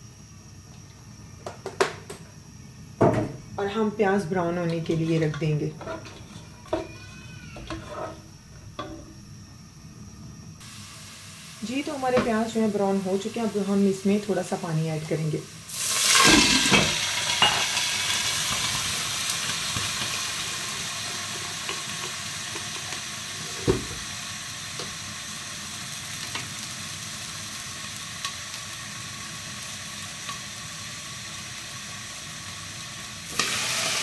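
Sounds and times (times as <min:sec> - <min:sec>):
onions sizzling in oil: 0:03.7 - 0:09.1, 0:10.6 - 0:34.0.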